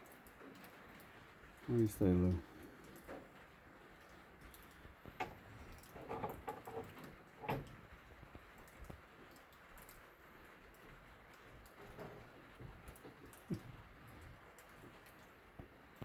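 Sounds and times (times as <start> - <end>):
light rain hiss: 0.0 - 16.0
raindrops ticking on metal roof: 0.0 - 16.0.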